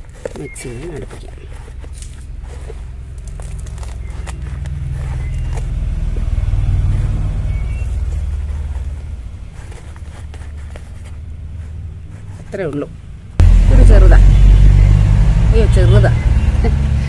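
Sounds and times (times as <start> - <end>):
low rumble: 1.5 - 11.9, 13.3 - 17.0.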